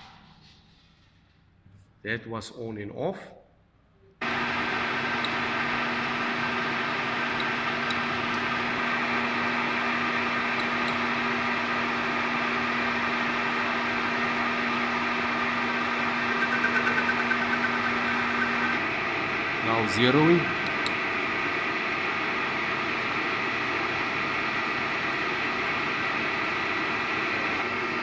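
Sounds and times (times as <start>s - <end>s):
metal lathe hum and whine: 4.2s - 28.0s.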